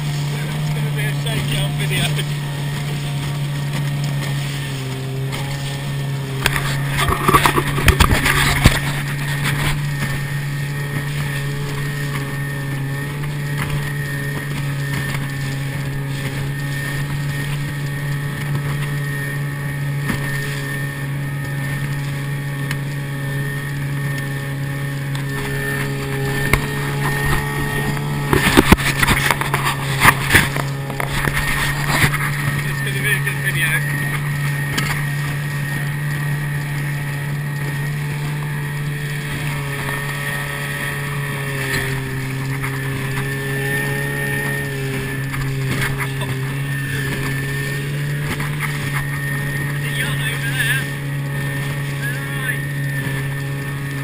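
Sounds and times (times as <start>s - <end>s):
outboard motor droning: 0.0s - 54.0s.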